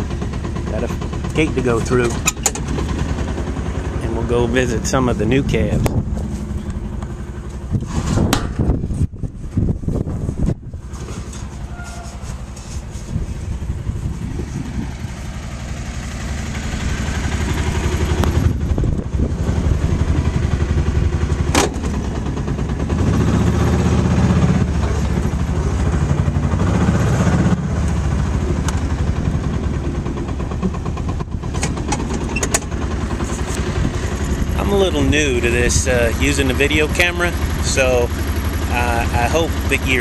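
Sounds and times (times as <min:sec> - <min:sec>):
utility vehicle engine running: 0:00.0 - 0:40.0.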